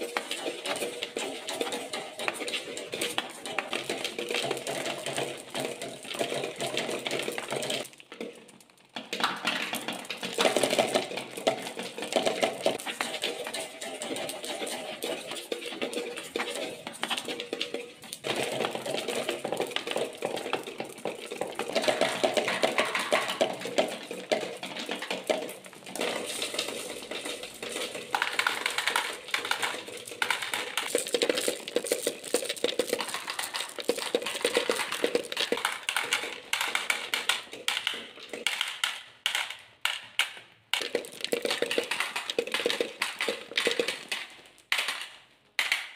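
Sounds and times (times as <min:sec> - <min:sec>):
marbles rolling and clattering: 0:00.0 - 0:45.9
marbles dropping into plastic bin: 0:02.5 - 0:14.2, 0:16.8 - 0:45.9.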